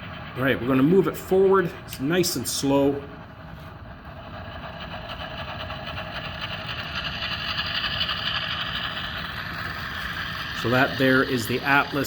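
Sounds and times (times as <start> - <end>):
model locomotive diesel engine sound: 0.0 - 12.0.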